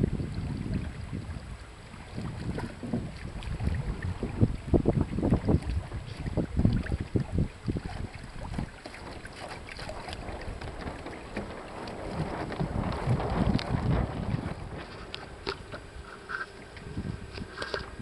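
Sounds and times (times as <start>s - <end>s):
water splashing against hull: 0.0s - 18.0s
wind buffeting microphone: 0.0s - 18.0s.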